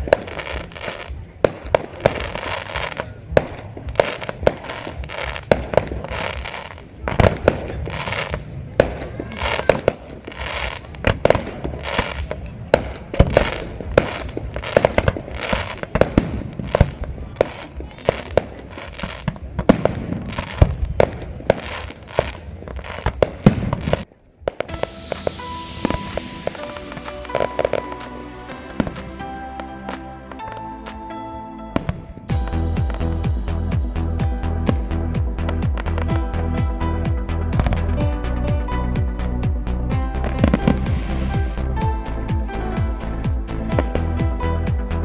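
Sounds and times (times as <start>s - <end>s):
fireworks bangs and crackling: 0.0s - 31.1s, 31.7s - 45.0s.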